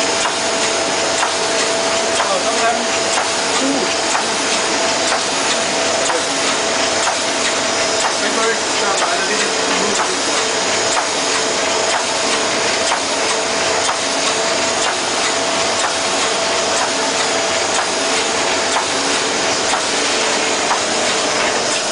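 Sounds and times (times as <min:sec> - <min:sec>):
machine cycle click: 0:00.2 - 0:21.9
envelope machine clattering: 0:02.2 - 0:21.9.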